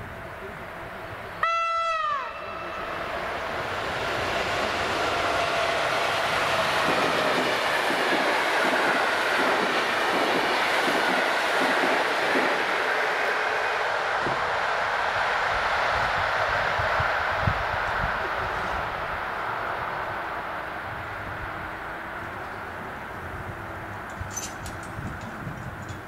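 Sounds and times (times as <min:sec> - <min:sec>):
train wheels rumbling on rails: 0:02.1 - 0:26.0.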